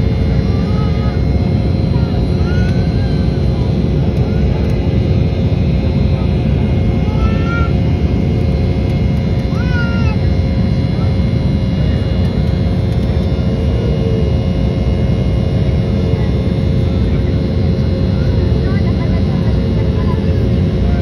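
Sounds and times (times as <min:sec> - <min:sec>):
airliner cabin roar: 0:00.0 - 0:21.0.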